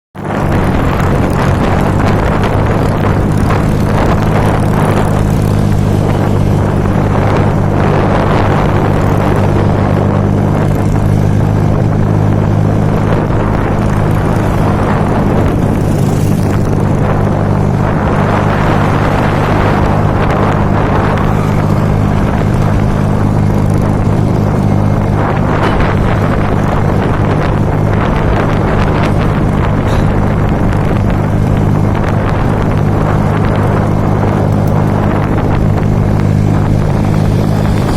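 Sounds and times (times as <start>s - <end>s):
strong wind gusts: 0.2s - 37.9s.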